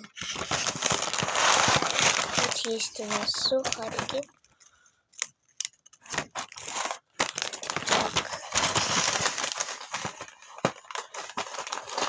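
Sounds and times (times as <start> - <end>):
packaging crinkling: 0.0 - 4.6, 5.2 - 12.0.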